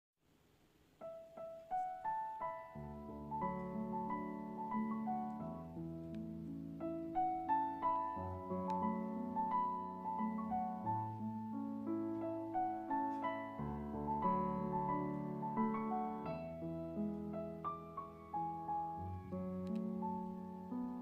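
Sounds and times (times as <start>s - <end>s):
gentle piano music: 1.0s - 21.0s.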